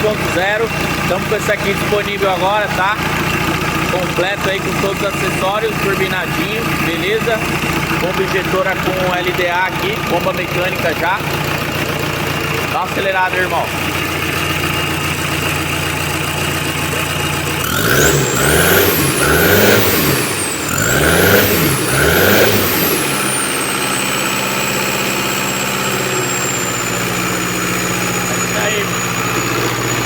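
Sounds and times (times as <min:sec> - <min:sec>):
diesel engine idling and revving: 0:00.0 - 0:30.0.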